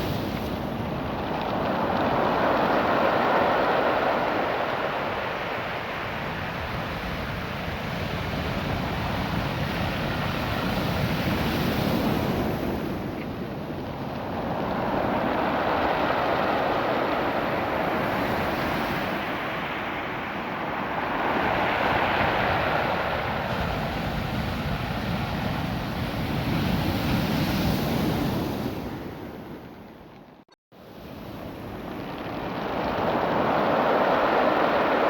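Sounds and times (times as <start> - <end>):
surf washing over cobble stones: 0.0 - 27.2, 31.0 - 35.0.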